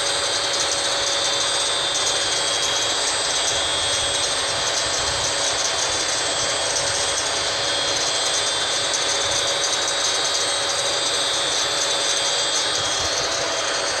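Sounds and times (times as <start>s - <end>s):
high-pitched whine: 0.0s - 14.0s
ventilation fan running: 0.0s - 14.0s.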